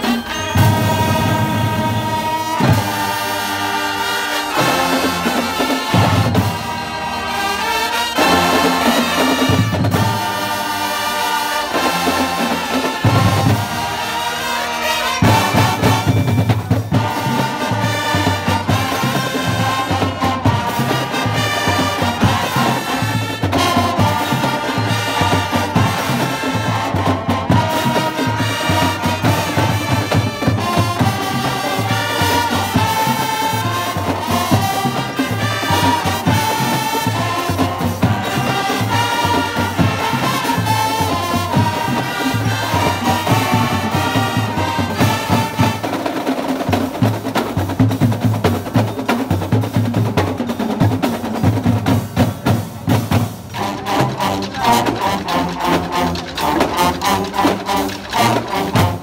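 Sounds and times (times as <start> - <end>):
brass chords: 0.0 - 47.8, 51.8 - 59.0
snare and bass drums: 0.0 - 59.0.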